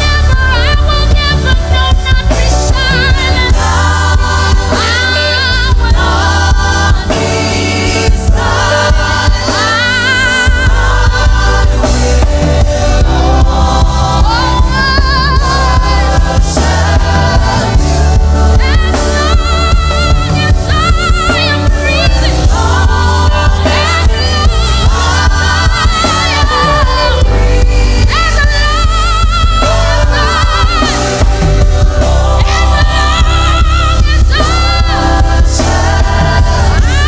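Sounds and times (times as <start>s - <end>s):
band with strong bass line: 0.0s - 37.0s
choir singing with vibrato: 0.0s - 37.0s.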